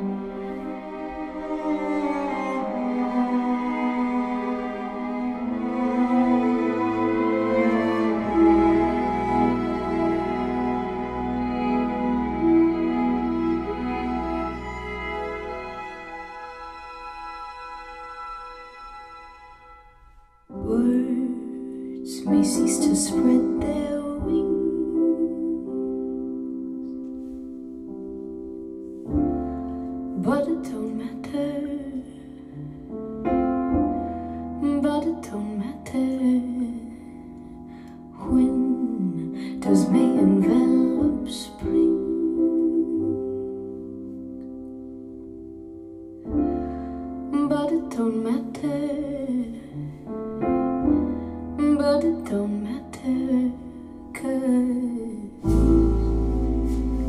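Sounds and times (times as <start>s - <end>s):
slow piano chords: 0.0s - 57.0s.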